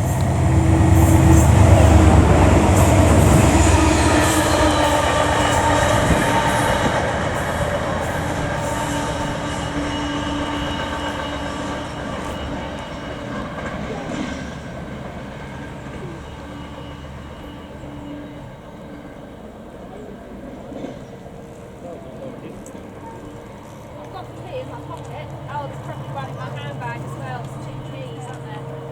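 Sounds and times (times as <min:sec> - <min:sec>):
train rumbling past: 0:00.0 - 0:28.9.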